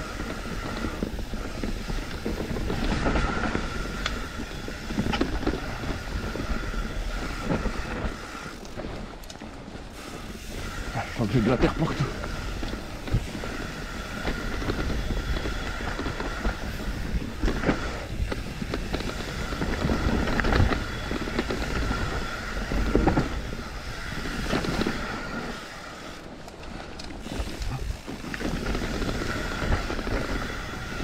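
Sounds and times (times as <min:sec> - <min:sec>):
bike rattling over bumps: 0:00.0 - 0:31.0
tyres rumbling over dirt: 0:00.0 - 0:31.0
wind buffeting microphone: 0:00.0 - 0:31.0.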